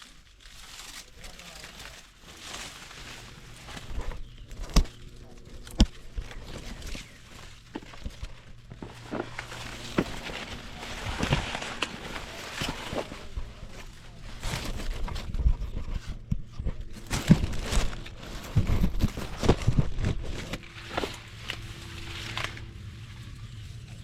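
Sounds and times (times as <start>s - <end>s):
rustling and crunching: 0.0s - 24.0s.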